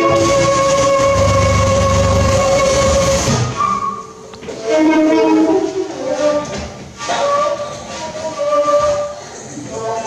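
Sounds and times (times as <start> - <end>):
saxophone: 0.0 - 9.2
shakuhachi: 0.0 - 9.2.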